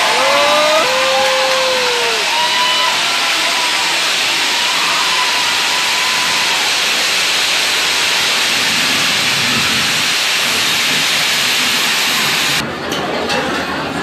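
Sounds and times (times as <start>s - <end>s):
spark fountains hissing: 0.0s - 12.6s.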